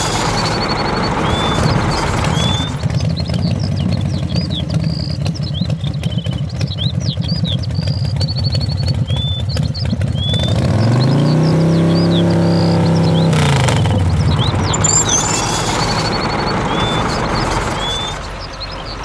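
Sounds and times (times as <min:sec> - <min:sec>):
engine chugging and revving: 0:00.0 - 0:19.0
small birds chirping: 0:00.0 - 0:19.0.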